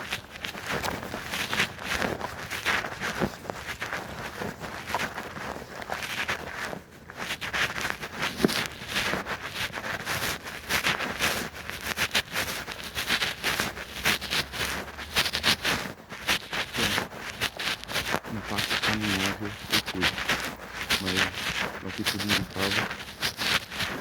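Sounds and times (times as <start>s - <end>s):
footsteps crunching dry leaves: 0.0s - 24.0s.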